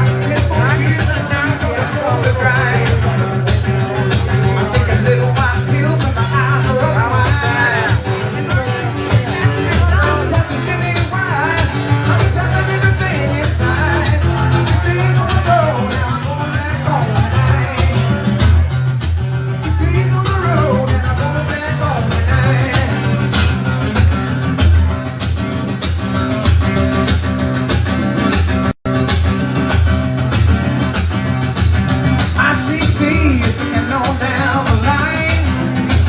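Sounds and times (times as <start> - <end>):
live band playing rock-reggae: 0.0 - 36.0.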